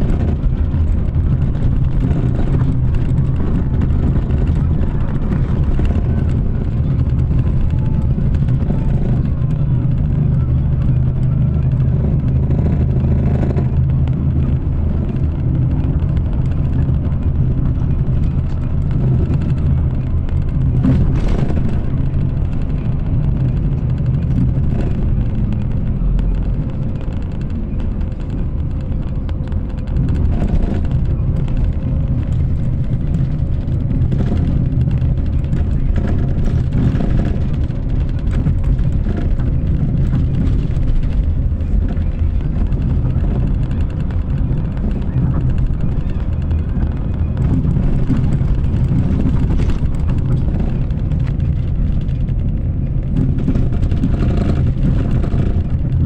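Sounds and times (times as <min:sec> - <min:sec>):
low engine drone: 0:00.0 - 0:56.0
tyres rumbling on road: 0:00.0 - 0:56.0.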